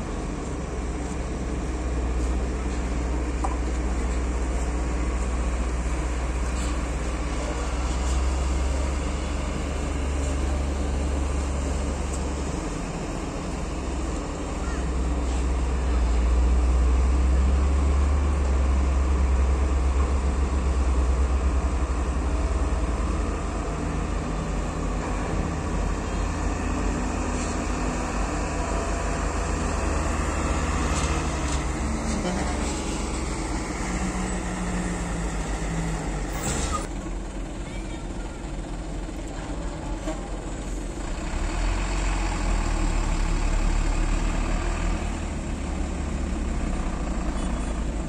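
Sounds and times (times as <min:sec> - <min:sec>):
truck diesel engines rumbling: 0:00.0 - 0:48.0.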